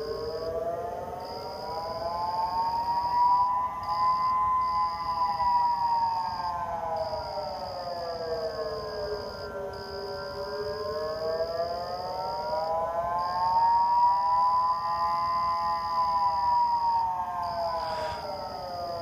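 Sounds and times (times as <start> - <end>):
warning siren slow wail: 0.0 - 19.0.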